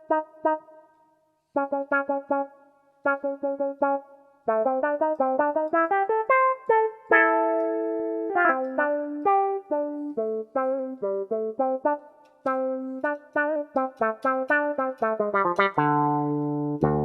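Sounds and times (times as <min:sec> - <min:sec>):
keyboard guitar notes and chord: 0:00.0 - 0:00.8, 0:03.1 - 0:17.0.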